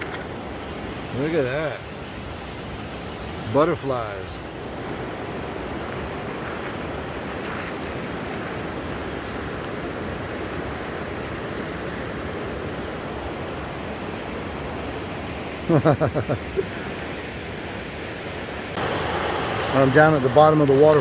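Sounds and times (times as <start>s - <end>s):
waterfall rushing: 3.4s - 21.0s.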